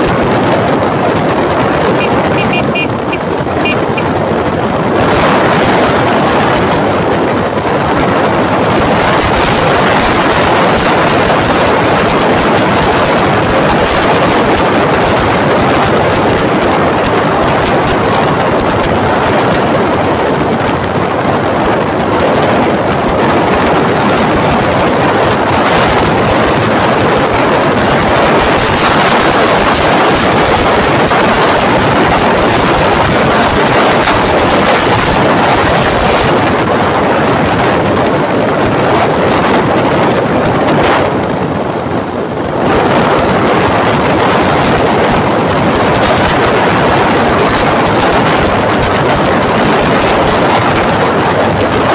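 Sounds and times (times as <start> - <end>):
motorcycle engine: 0.0 - 42.6
wind buffeting microphone: 0.0 - 51.9.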